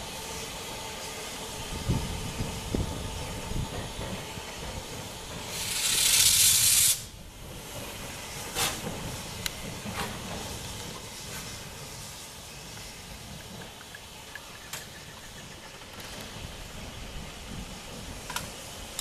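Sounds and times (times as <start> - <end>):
steam hiss: 0.0 - 19.0
steam locomotive rumbling: 0.0 - 19.0.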